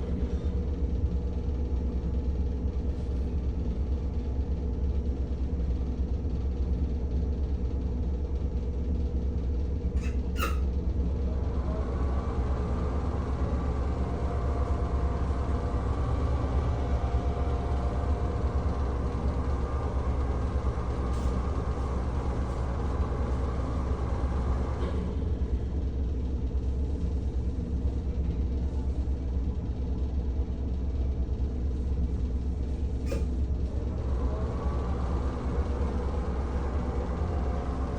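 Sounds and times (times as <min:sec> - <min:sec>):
exhaust fan motor hum: 0:00.0 - 0:37.9.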